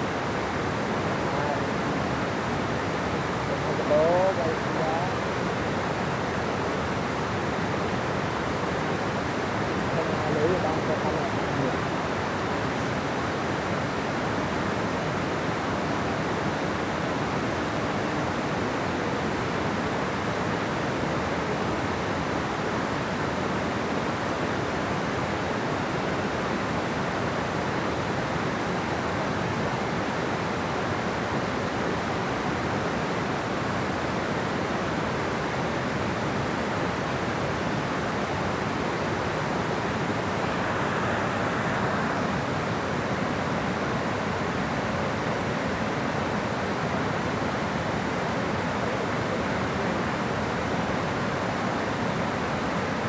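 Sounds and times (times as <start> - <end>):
water rushing over a dam: 0.0 - 53.0.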